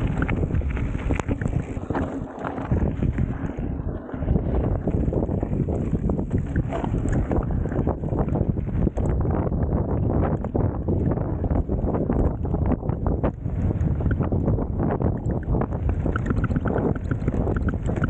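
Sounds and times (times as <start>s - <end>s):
bike clicks and rattles: 0.0s - 3.6s, 4.8s - 18.0s
wind buffeting microphone: 0.0s - 18.0s.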